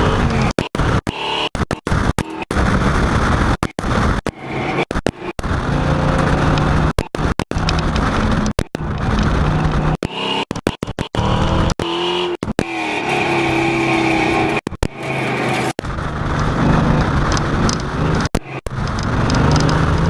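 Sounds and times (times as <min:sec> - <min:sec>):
engine-like drone: 0:00.0 - 0:20.0.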